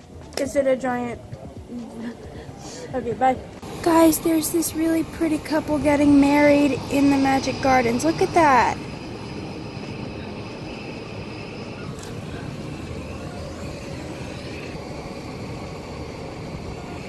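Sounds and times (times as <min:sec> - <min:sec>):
low city background rumble: 0:00.0 - 0:17.0.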